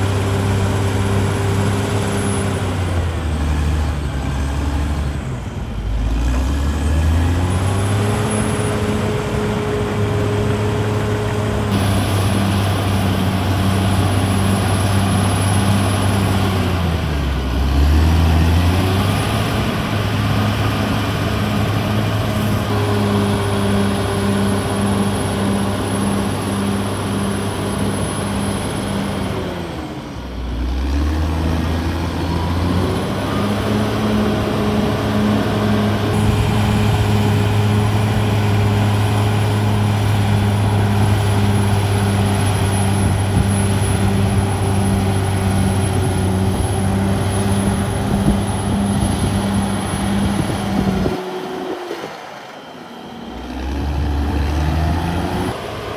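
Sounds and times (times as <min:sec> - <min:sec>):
bulldozer diesel engine revving: 0:00.0 - 0:55.9.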